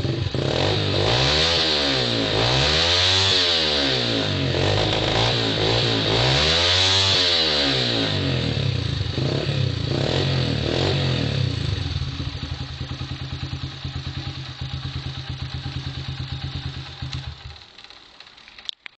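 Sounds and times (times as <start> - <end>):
motorcycle engine revving and idling: 0.0 - 18.8.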